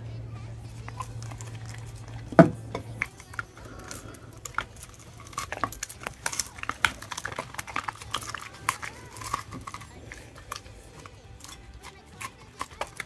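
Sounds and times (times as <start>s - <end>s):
dog crunching corn: 0.0s - 13.0s.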